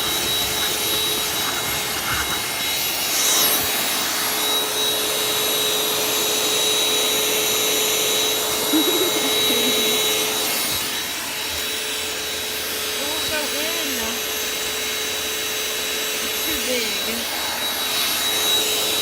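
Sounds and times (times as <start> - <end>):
cordless vacuum cleaner running: 0.0 - 19.0.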